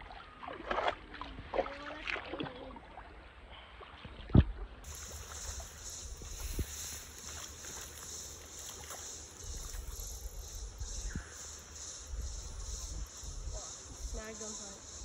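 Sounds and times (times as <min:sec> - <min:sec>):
water splashing in creek: 0:00.0 - 0:14.3.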